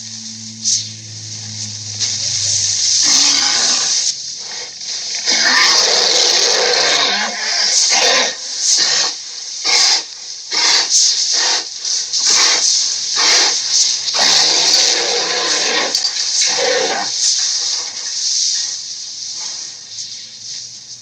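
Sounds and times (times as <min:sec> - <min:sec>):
dinosaur breathy hisses: 0:02.0 - 0:20.7.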